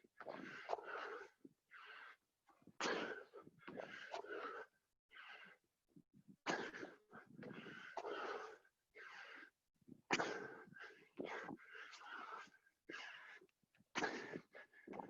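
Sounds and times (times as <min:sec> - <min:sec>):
people breathing hard: 0:00.2 - 0:05.7, 0:06.6 - 0:09.6, 0:10.2 - 0:15.0.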